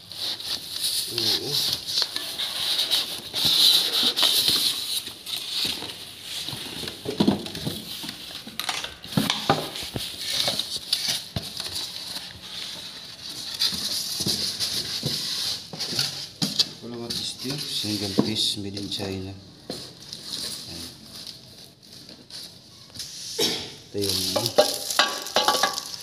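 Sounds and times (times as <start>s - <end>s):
plastic wrapping crinkling: 0.0s - 23.1s, 23.9s - 26.0s.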